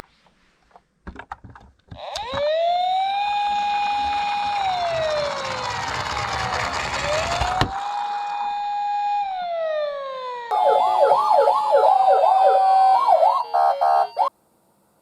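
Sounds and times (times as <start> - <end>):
ambulance siren wailing: 2.0 - 14.3.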